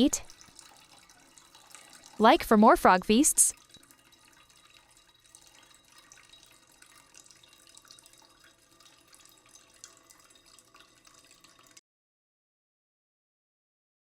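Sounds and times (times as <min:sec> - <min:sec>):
faint running water: 0:00.0 - 0:11.8
water drips: 0:00.0 - 0:11.8.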